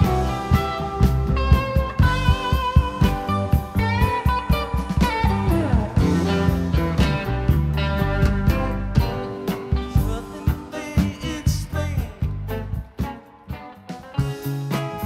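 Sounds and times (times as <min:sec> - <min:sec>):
drum beat: 0:00.0 - 0:15.0
guitar with falling slide: 0:00.0 - 0:15.0.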